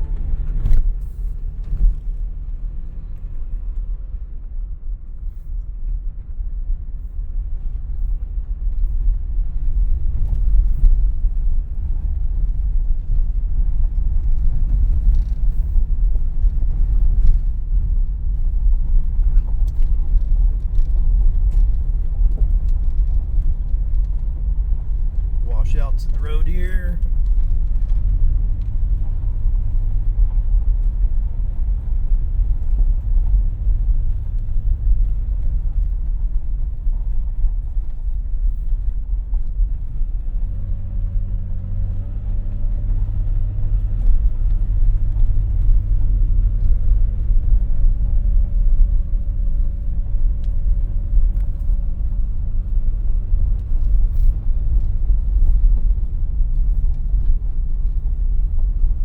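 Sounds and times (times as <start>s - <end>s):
low engine hum: 0.0s - 59.0s
vehicle rumbling on rough road: 0.0s - 59.0s.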